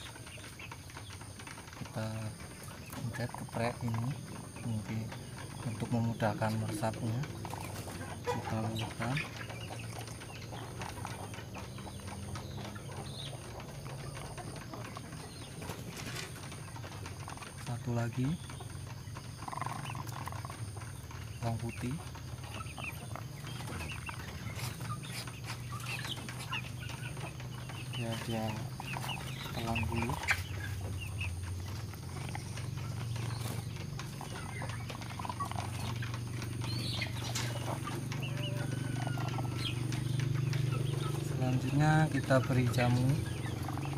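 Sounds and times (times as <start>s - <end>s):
chicken chirp: 0.0s - 43.9s.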